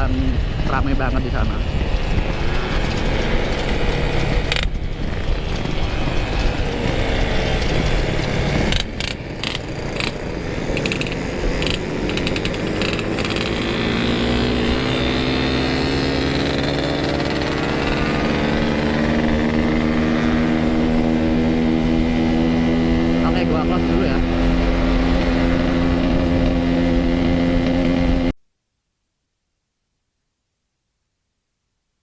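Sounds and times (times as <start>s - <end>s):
riding wind noise: 0.0s - 28.3s
motorcycle engine accelerating: 0.0s - 28.4s.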